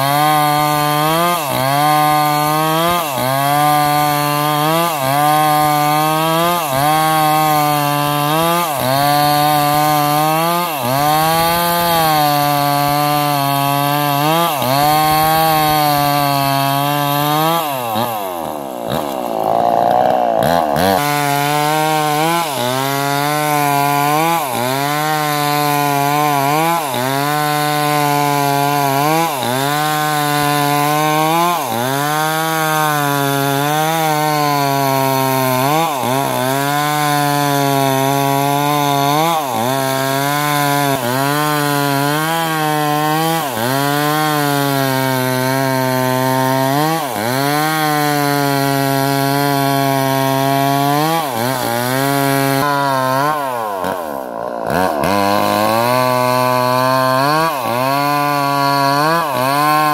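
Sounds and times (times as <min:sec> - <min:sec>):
chainsaw running at high revs: 0:00.0 - 0:59.9.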